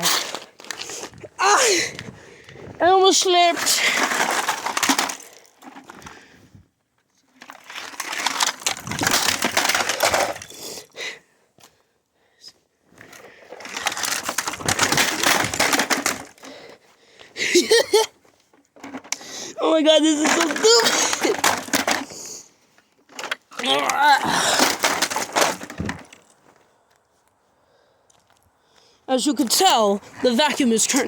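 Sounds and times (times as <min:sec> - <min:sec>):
plastic parts crunching and clattering: 0:00.0 - 0:11.0, 0:12.9 - 0:27.0.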